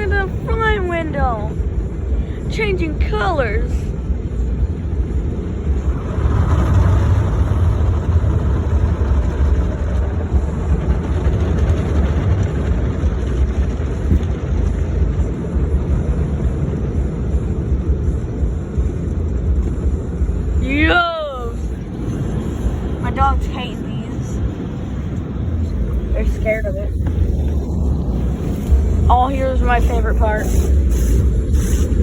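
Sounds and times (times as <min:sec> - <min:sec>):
car wash equipment rumbling: 0:00.0 - 0:32.0
water on car: 0:02.6 - 0:32.0.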